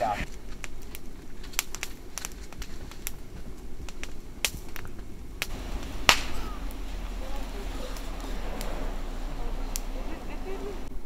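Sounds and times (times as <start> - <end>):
campfire crackling and popping: 0.0 - 11.0
low steady hiss: 0.0 - 11.0.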